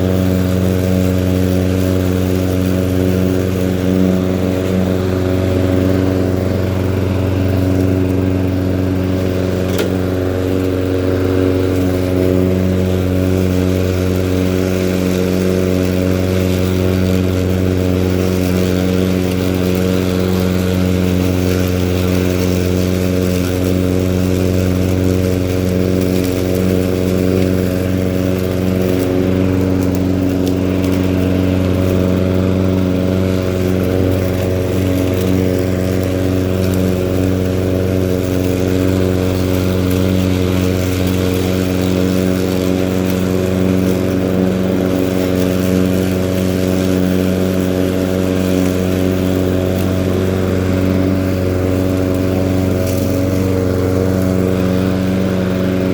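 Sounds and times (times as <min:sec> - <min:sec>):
lawn mower engine running: 0:00.0 - 0:55.9.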